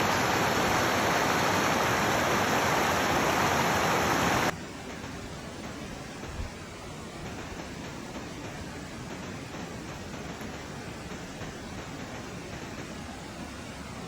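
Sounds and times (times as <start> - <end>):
quiet hiss: 0.0 - 14.0.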